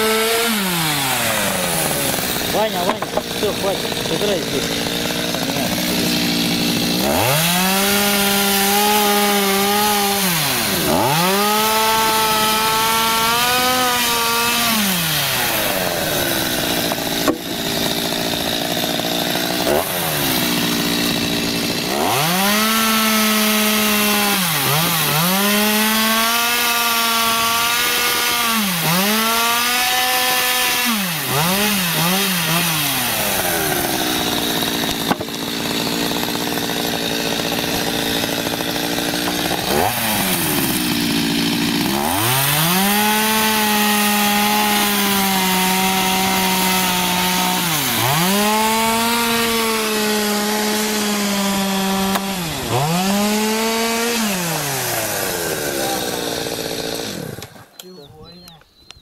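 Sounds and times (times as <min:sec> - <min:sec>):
chainsaw cutting wood: 0:00.0 - 0:58.1.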